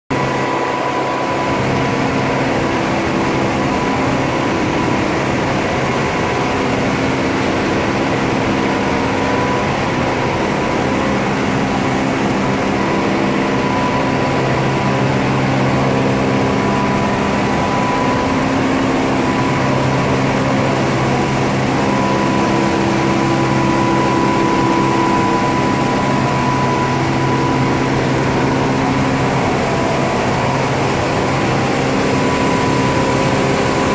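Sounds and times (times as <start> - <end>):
machine whining tones: 0.2 - 33.9
printing press running: 0.2 - 33.9.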